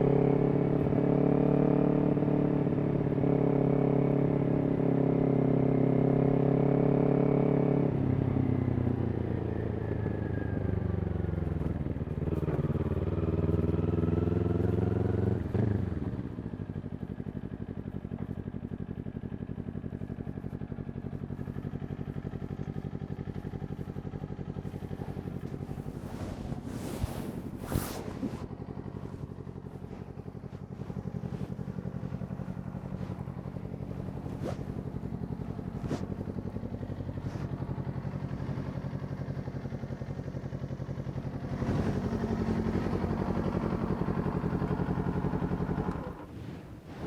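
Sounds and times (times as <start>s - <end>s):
motorcycle engine revving and idling: 0.0s - 47.0s.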